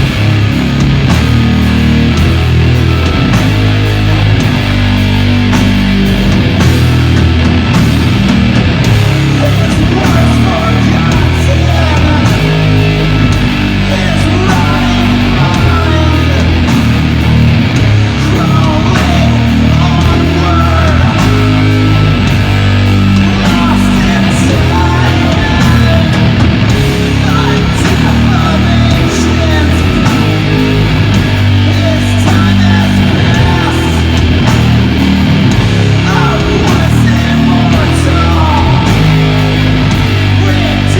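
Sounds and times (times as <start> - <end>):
bass guitar: 0.0 - 40.9
distorted electric guitars: 0.0 - 40.9
drums and cymbals: 0.0 - 40.9.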